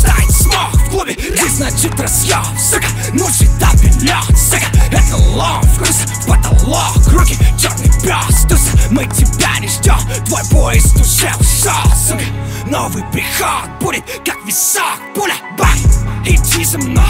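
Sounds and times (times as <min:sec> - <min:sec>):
hip hop beat: 0:00.0 - 0:17.0.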